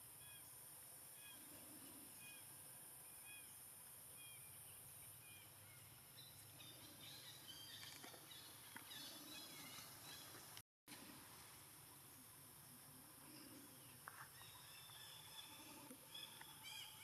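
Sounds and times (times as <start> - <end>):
faint bird chirps: 0.2 - 10.6, 13.2 - 17.0.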